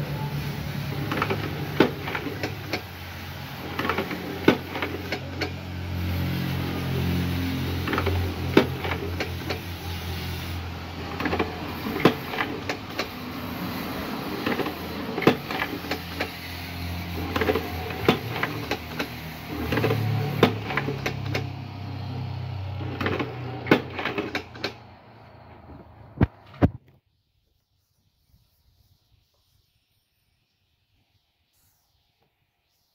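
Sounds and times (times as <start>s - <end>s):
low motor hum: 0.0s - 26.7s.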